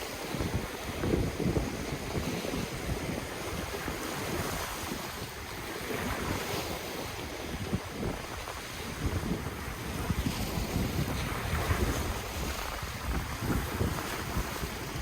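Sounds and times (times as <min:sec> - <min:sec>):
ocean waves washing: 0:00.0 - 0:15.0
wind buffeting microphone: 0:00.0 - 0:15.0.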